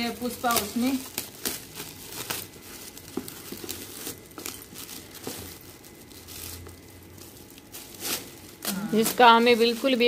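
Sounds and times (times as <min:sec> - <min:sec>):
wrapping paper crinkling and tearing: 0:00.0 - 0:10.0.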